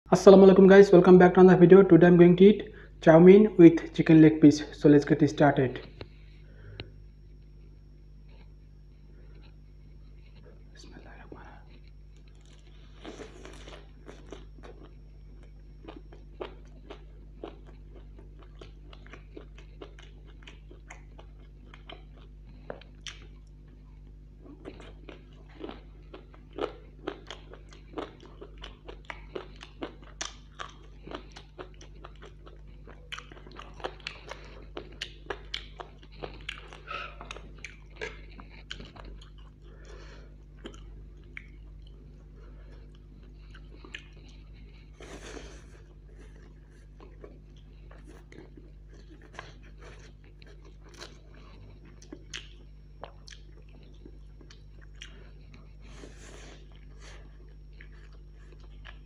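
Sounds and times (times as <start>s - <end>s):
steady low hum: 0.1s - 59.0s
chewing with crunches: 5.8s - 59.0s.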